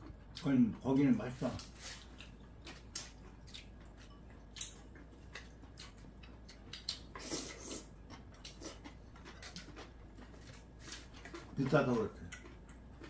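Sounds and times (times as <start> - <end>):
chewing mouth sounds: 1.6 - 13.0.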